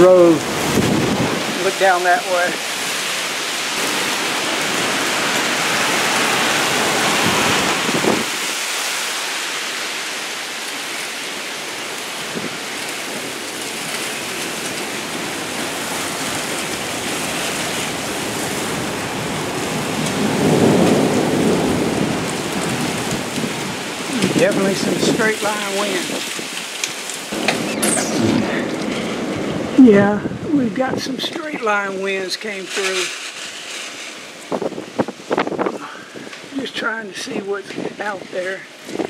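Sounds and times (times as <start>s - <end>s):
gusting wind: 0.0s - 39.0s
heavy rain on pavement: 0.0s - 39.0s.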